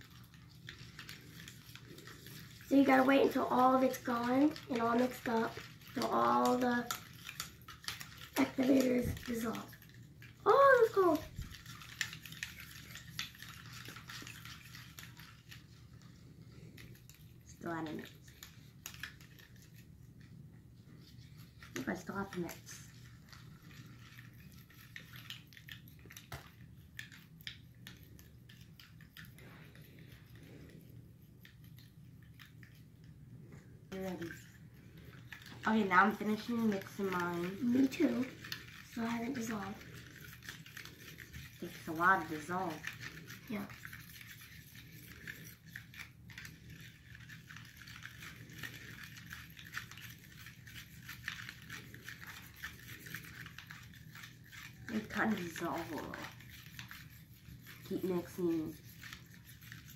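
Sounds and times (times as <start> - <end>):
plastic spoons stirring in cups: 0.0 - 59.9.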